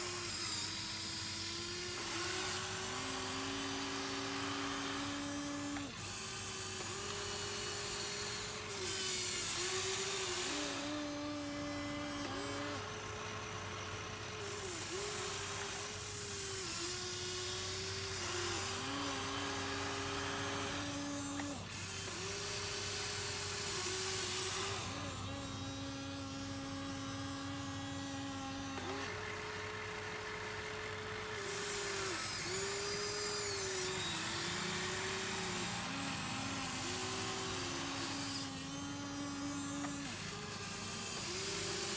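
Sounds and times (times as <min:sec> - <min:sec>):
electric motors whining: 0:00.0 - 0:41.9.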